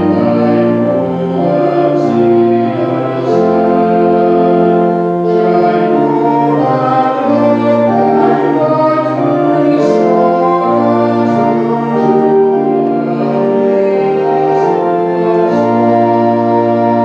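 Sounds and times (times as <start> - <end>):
church organ playing a hymn: 0.0 - 17.0.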